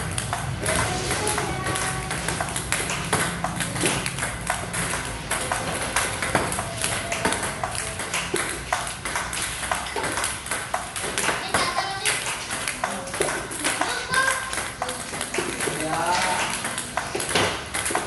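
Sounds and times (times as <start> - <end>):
ping-pong balls bouncing on table: 0.0 - 18.0
ping-pong balls clicking off paddles: 0.0 - 18.0.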